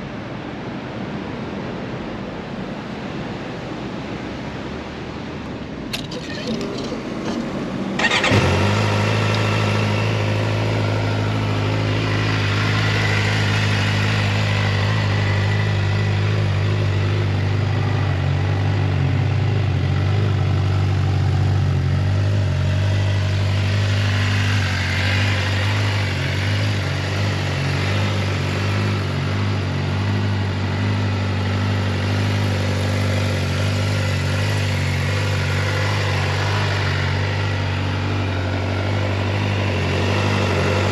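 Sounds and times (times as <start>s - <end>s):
motorcycle engine idling: 6.8s - 40.9s.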